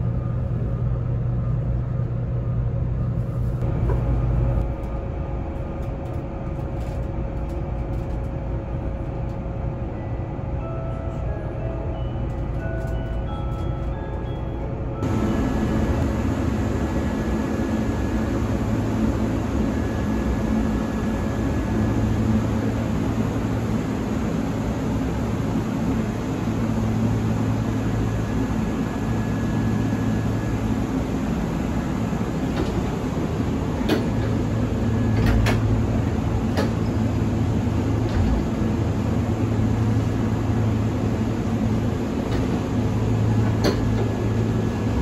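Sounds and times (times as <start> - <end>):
train running hum and rumble: 0.0 - 45.0.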